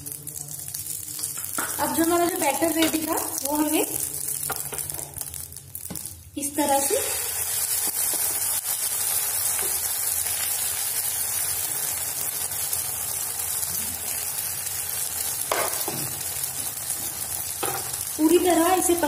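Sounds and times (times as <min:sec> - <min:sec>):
egg batter sizzling in oil: 0:00.0 - 0:19.0.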